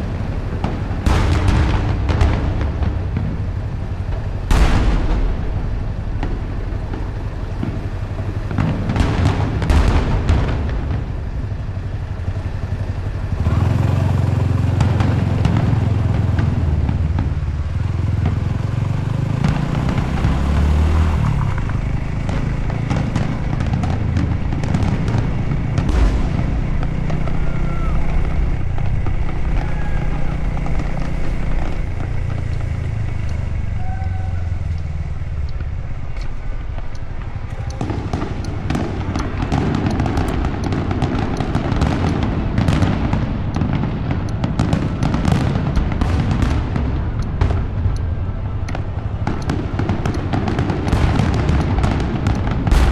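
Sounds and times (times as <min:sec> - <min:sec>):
fireworks crackling: 0:00.0 - 0:52.9
rumble of bursting fireworks: 0:00.0 - 0:52.9.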